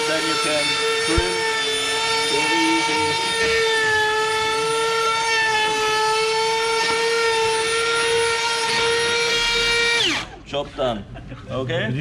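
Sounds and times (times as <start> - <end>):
router whining while trimming wood: 0.0 - 10.4.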